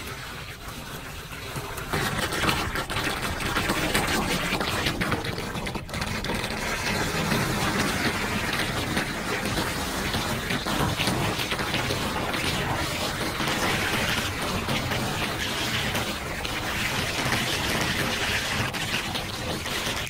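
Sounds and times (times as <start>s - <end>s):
water draining down storm drain: 0.0s - 20.0s.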